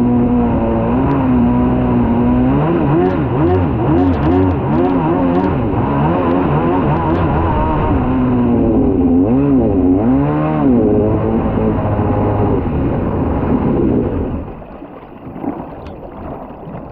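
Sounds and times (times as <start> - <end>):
jet ski engine revving: 0.0 - 14.6.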